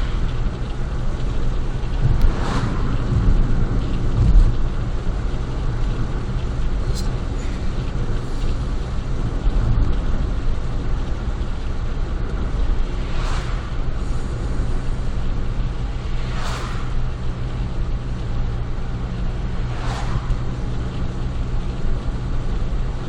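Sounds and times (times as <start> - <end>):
car exhaust drone: 0.0 - 23.0.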